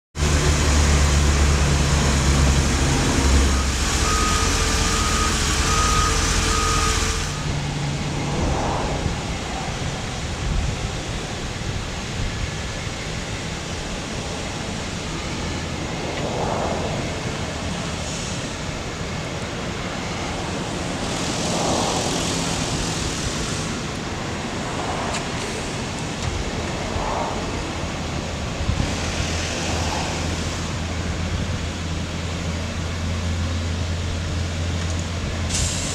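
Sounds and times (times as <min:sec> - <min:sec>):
outdoor noise: 0:00.2 - 0:35.9
truck engine running: 0:00.2 - 0:35.9.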